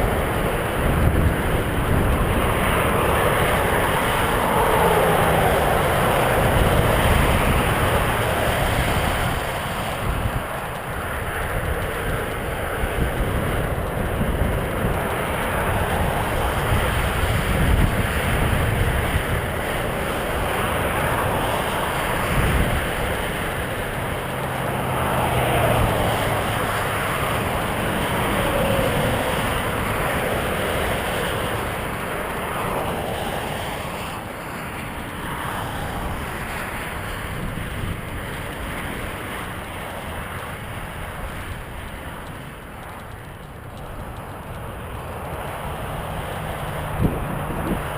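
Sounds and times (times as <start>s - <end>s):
low rumble from riding: 0.0s - 47.9s
wind buffeting microphone: 0.0s - 47.9s.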